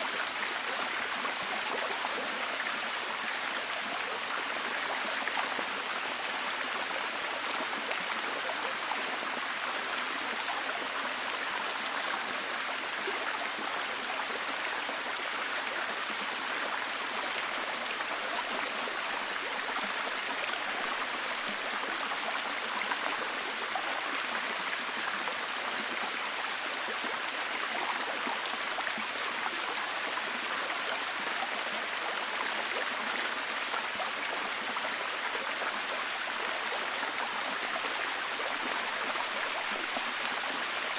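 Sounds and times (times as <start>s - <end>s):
steady rain in forest: 0.0s - 40.9s.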